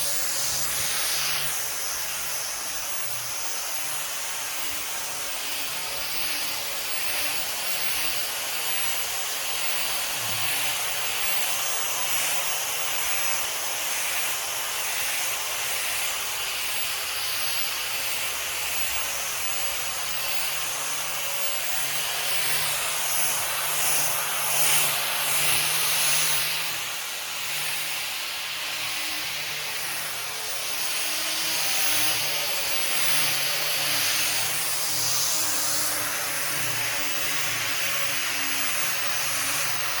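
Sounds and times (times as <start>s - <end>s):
orbital sander motor hum: 0.0s - 40.0s.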